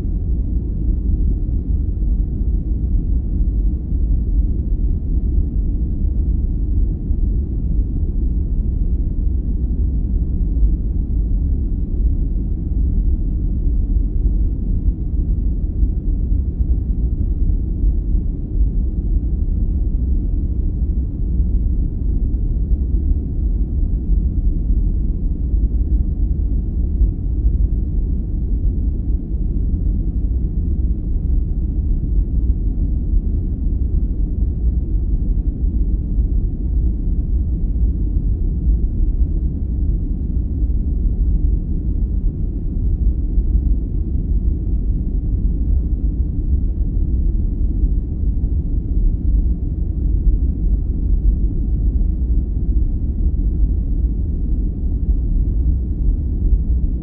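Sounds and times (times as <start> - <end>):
deep rumbling brown noise: 0.0 - 57.0.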